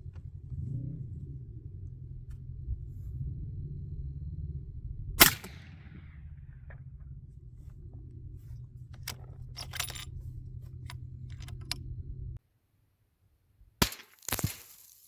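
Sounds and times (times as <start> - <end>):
low steady rumble: 0.0 - 12.4.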